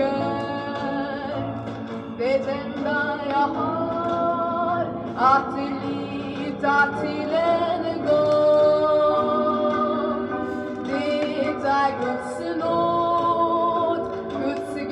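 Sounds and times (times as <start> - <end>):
gospel song: 0.0 - 14.9.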